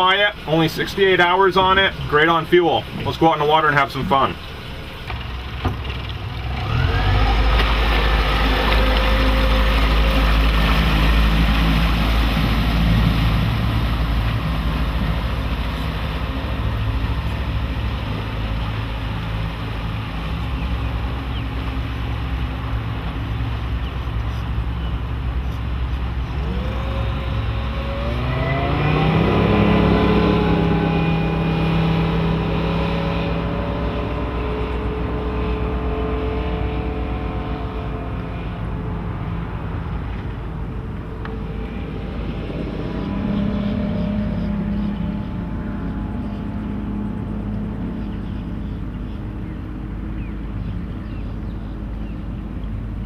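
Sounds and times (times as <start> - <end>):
outboard motor running: 0.0 - 53.0
water rushing: 0.0 - 53.0
wind: 0.0 - 53.0.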